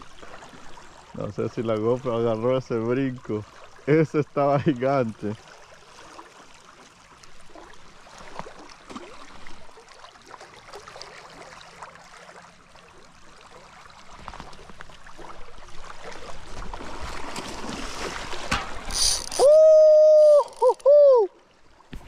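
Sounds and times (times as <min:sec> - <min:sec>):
river water running and splashing: 0:00.0 - 0:22.0.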